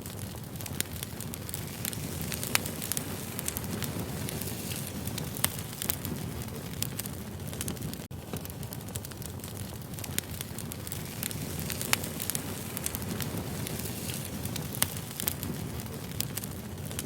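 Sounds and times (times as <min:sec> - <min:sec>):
firewood crackling and popping: 0:00.0 - 0:17.0
flames rumbling: 0:00.0 - 0:17.0.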